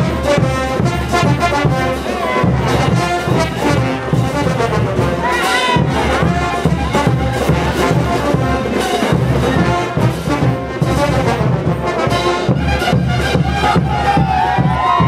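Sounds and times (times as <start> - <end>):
brass band playing: 0.0 - 15.0
drums and cymbals: 0.0 - 15.0.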